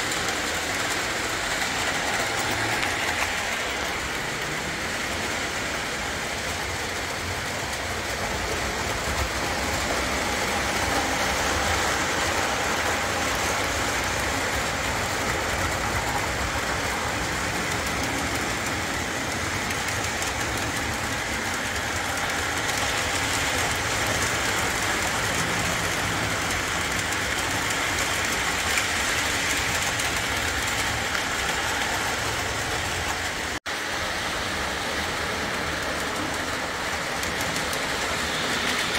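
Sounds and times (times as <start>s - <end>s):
model train running on track: 0.0s - 38.9s.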